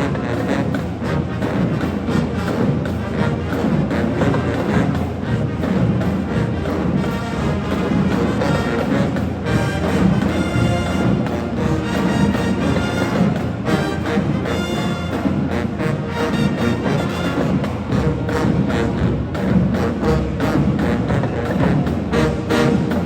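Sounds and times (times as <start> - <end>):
bass drums and percussion: 0.0 - 23.0
brass section chords: 0.0 - 23.0.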